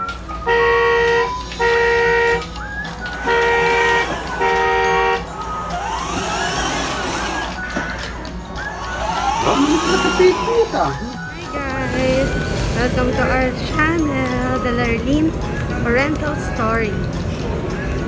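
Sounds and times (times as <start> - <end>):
horn honking: 0.0 - 18.0
gliding tones rising and falling: 1.2 - 16.2.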